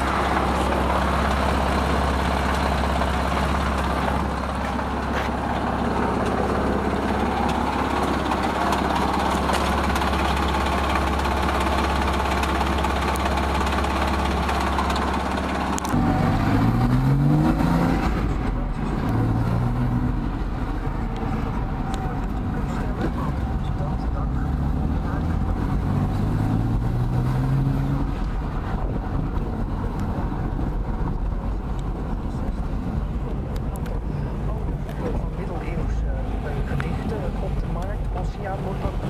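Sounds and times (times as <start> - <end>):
car engine idling and revving: 0.0 - 39.0.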